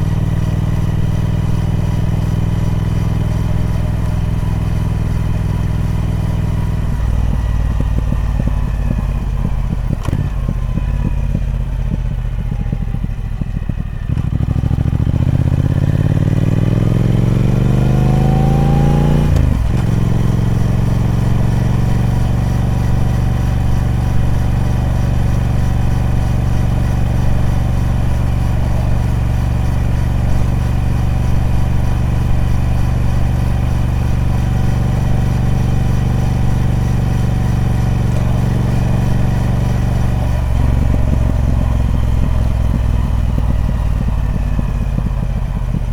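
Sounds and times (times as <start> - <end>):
motorcycle engine: 0.0 - 45.9.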